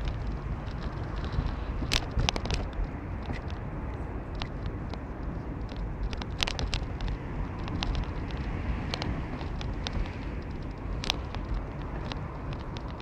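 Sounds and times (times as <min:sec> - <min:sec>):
clicks and rattles: 0:00.0 - 0:03.7, 0:04.3 - 0:13.0
car engine and road rumble: 0:00.0 - 0:13.0.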